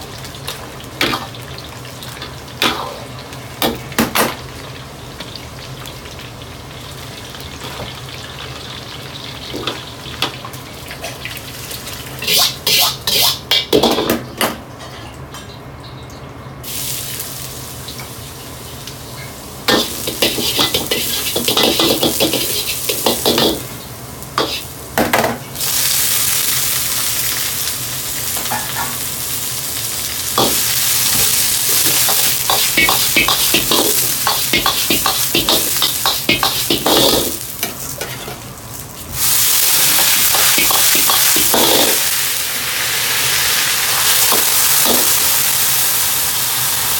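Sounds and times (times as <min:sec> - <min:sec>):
vegetables sizzling in a wok: 0:00.0 - 0:14.0, 0:16.6 - 0:46.9.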